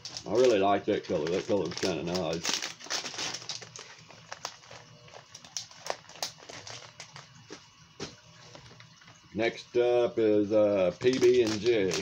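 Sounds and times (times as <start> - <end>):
plastic packs clicking and tapping: 0.0 - 9.2, 10.9 - 12.0
plastic crinkling: 0.0 - 9.3, 10.7 - 12.0.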